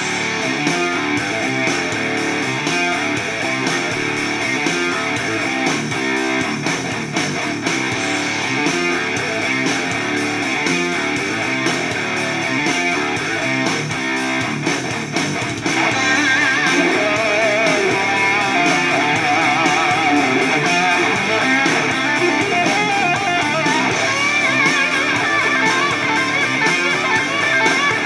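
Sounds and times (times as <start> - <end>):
guitar music through speaker: 0.0 - 28.0
wavering guitar lead line: 0.0 - 28.0.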